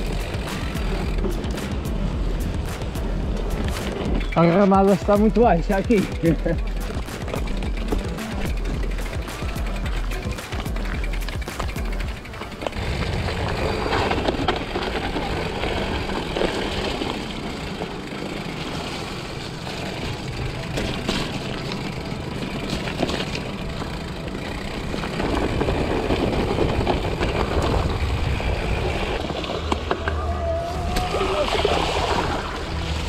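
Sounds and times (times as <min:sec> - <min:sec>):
bike clicks and rattles: 0:00.0 - 0:31.6
bike tyres rumbling on dirt: 0:00.0 - 0:33.0.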